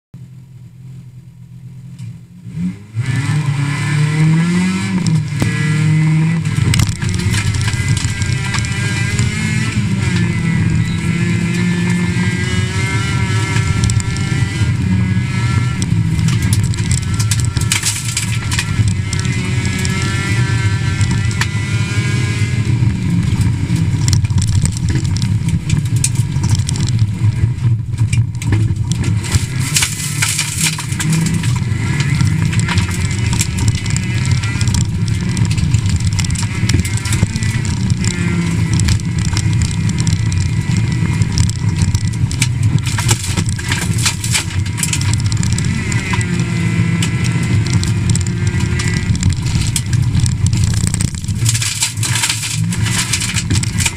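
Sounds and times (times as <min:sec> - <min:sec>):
car engine revving through gears: 0:02.0 - 0:53.9
gravel rattling against underbody: 0:03.1 - 0:53.9.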